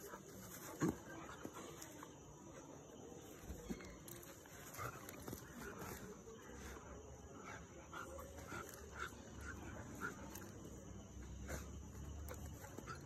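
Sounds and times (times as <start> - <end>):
dogs play-fighting: 0.0 - 13.0.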